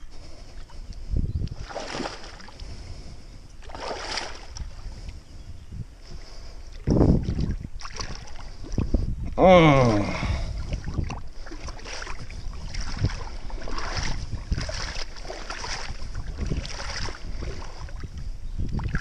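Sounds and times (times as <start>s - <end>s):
water splashing and sloshing: 0.0s - 5.2s, 6.0s - 9.1s, 10.0s - 19.0s
wind on microphone: 0.0s - 19.0s.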